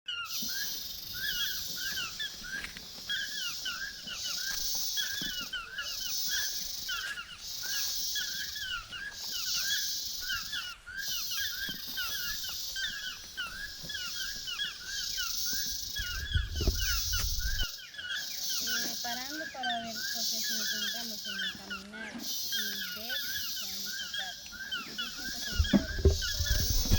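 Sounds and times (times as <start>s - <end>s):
high insect buzz: 0.3s - 26.9s.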